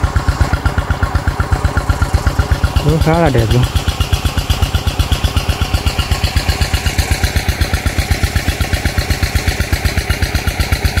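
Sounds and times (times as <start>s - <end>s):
small engine thumping: 0.0s - 11.0s.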